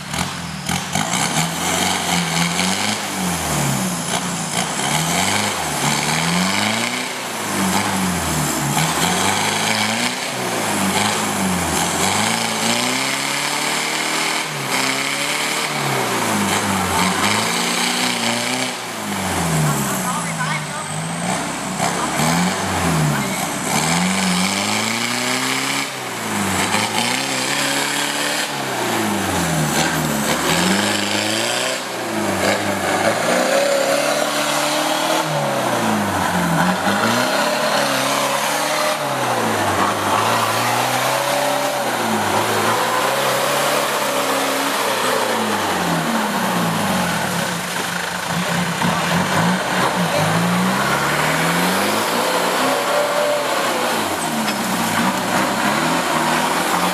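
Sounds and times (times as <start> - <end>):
off-road vehicle engine revving: 0.0 - 56.9.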